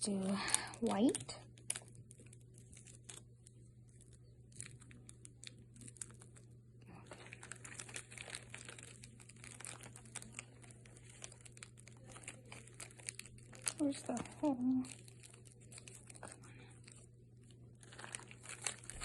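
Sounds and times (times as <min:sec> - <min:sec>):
plastic bag crinkling: 0:00.0 - 0:19.0
small clicks and crackles: 0:00.0 - 0:19.0.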